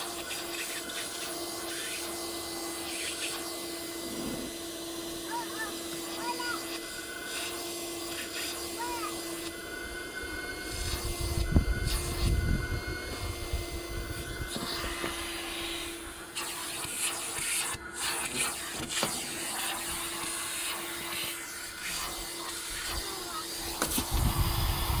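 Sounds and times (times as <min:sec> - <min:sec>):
vacuum cleaner humming: 0:00.0 - 0:25.0.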